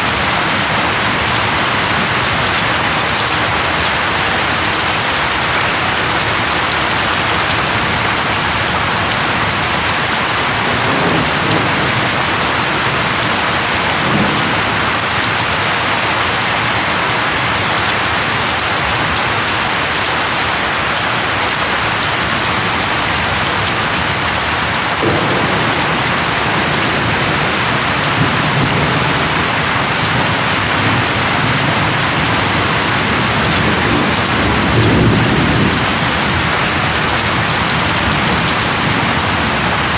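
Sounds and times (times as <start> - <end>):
distant thunder rumbles: 0.0 - 16.8, 23.6 - 39.9
rain pattering: 0.0 - 39.9.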